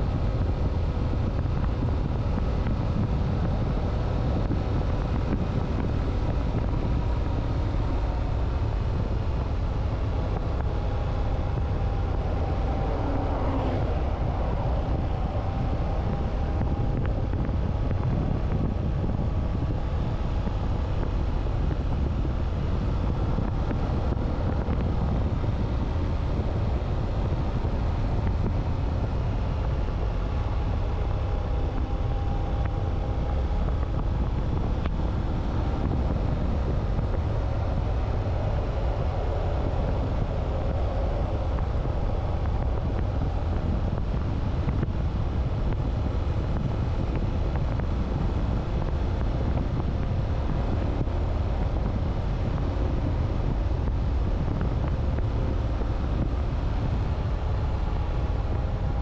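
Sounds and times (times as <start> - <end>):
faint motorcycle engine: 0.0 - 59.0
wind rumble on microphone: 0.0 - 59.0.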